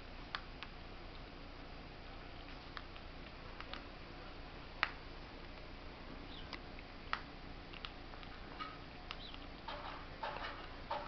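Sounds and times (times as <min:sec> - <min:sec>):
squirrel crunching corn kernel: 0:00.2 - 0:11.0.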